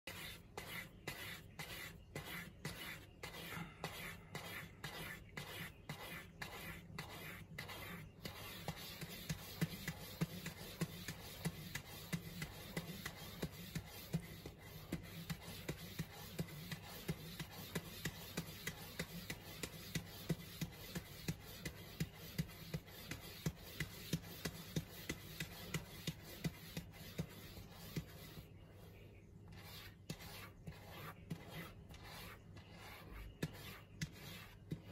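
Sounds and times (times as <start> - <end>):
cat scratching cardboard: 0.1 - 34.9.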